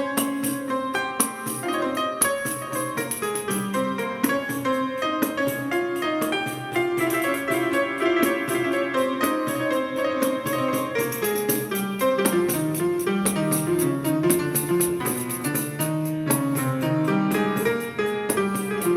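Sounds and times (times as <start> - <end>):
hand percussion: 0.0 - 18.9
piano playing: 0.0 - 18.9.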